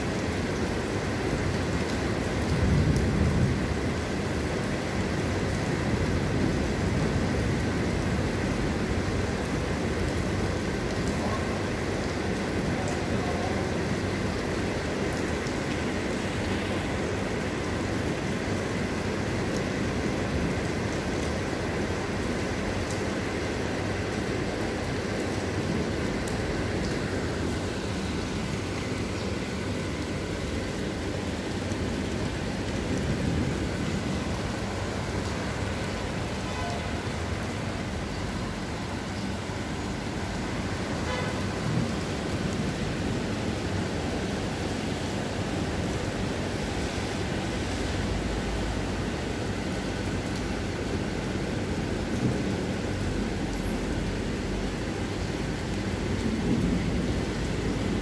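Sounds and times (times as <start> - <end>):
heavy rain on pavement: 0.0 - 58.0.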